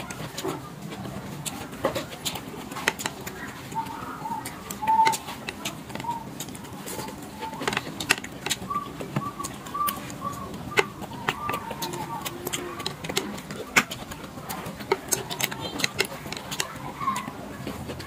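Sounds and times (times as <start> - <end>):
chewing: 0.0 - 18.0
chopsticks clicking on a plate: 1.4 - 18.0.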